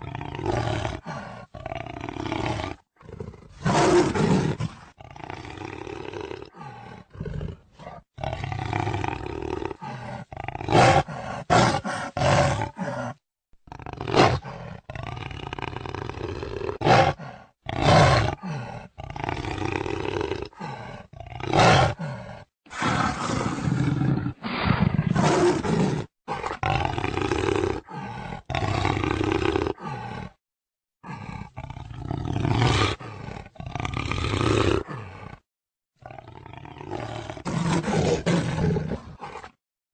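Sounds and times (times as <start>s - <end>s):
jaguar roaring and growling: 0.0s - 30.4s, 31.0s - 35.4s, 36.0s - 39.6s.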